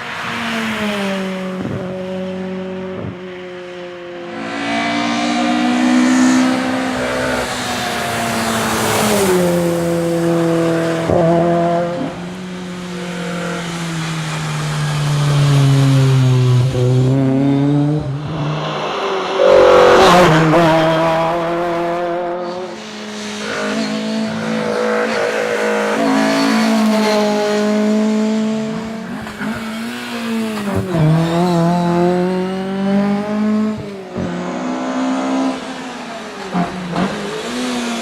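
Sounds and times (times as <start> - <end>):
rally car engine revving: 4.3 - 38.0.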